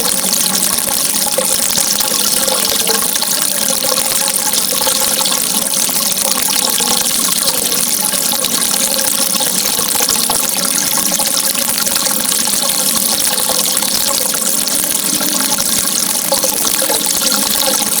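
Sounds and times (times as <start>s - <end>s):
flowing water rushing: 0.0s - 18.0s.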